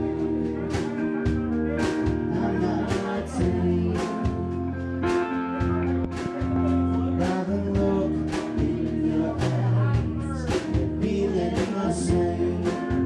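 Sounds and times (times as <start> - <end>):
drum kit beat: 0.0 - 13.0
electric bass: 0.0 - 13.0
electric guitars: 0.0 - 13.0.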